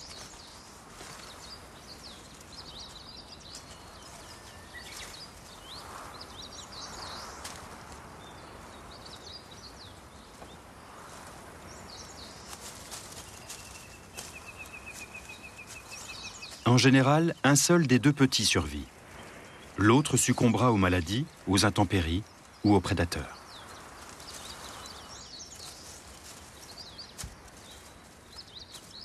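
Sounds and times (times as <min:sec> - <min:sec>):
faint rustles and clicks: 0:00.0 - 0:17.0, 0:18.3 - 0:29.0
small birds chirping: 0:00.0 - 0:29.0
soft background hiss: 0:00.0 - 0:29.0.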